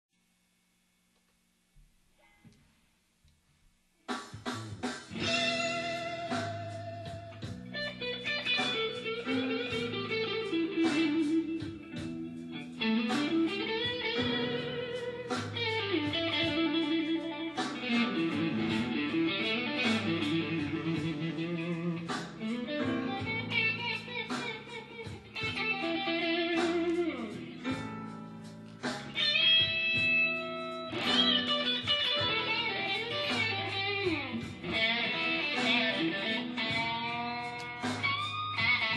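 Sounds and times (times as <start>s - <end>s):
electric guitar playing blues: 5.1s - 38.9s.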